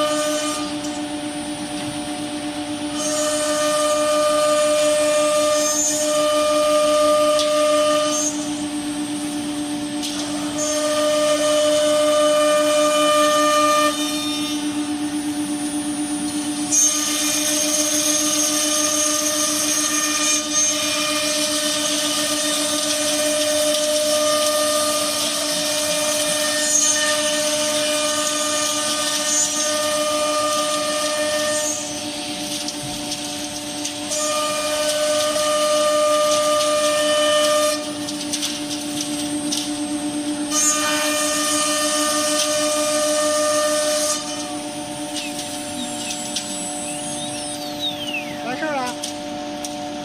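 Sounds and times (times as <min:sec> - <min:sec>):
router spindle whine: 0:00.0 - 0:50.0.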